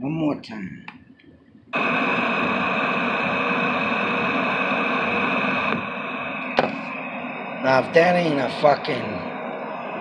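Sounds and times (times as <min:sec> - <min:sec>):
faint steady hum: 0:00.0 - 0:10.0
electric fan rushing: 0:01.7 - 0:10.0.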